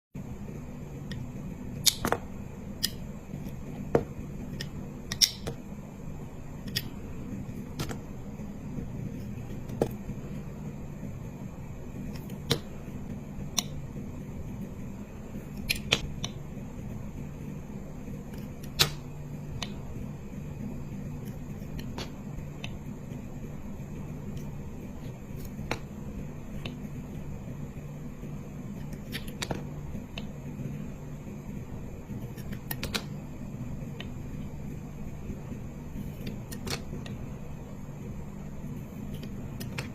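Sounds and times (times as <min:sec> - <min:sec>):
steady low hum: 0:00.2 - 0:39.9.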